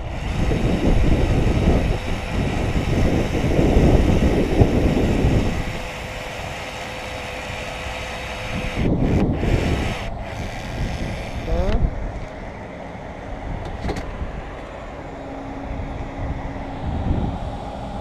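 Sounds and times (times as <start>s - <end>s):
wind buffeting microphone: 0.0s - 6.7s, 7.3s - 12.6s, 15.5s - 18.0s.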